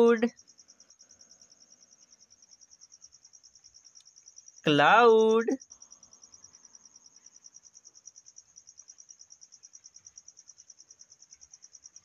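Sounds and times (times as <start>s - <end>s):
faint cricket chirping: 0.0s - 12.0s.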